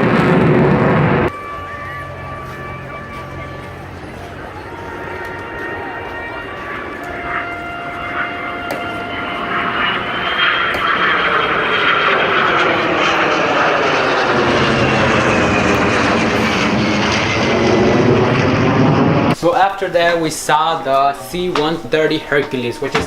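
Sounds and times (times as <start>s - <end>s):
high jet engine whine: 0.0s - 23.0s
jet flying past: 0.0s - 23.0s.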